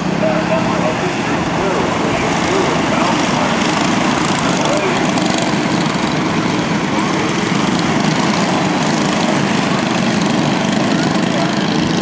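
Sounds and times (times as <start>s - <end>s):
small racing engines droning: 0.0s - 12.0s.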